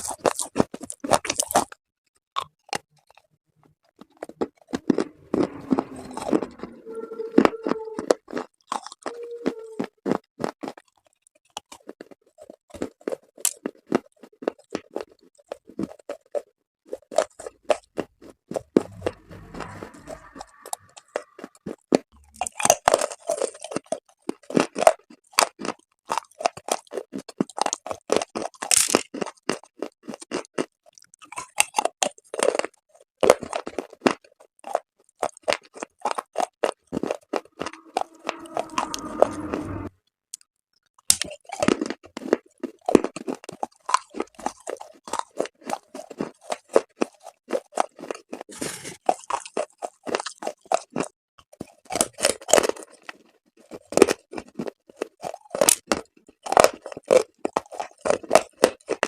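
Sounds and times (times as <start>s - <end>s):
crunching and chewing chalk: 0.0s - 38.8s, 40.4s - 59.0s.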